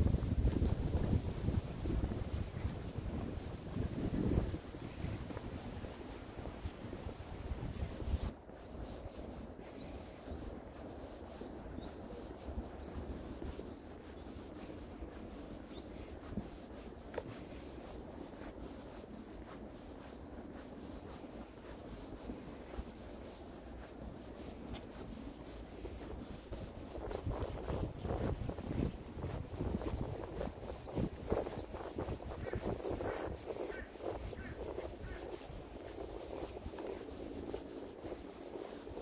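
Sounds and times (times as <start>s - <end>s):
wind buffeting microphone: 0.0s - 23.4s, 24.3s - 39.0s.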